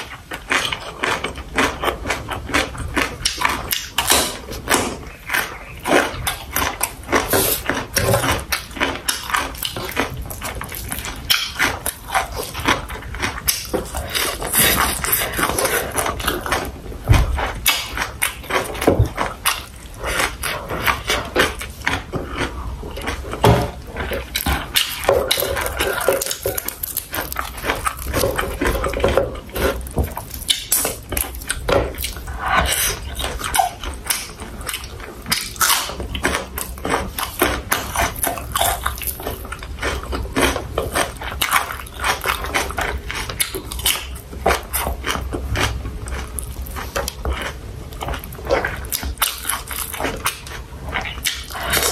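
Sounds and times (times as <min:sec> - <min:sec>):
chewing and mouth sounds: 0:00.0 - 0:51.9.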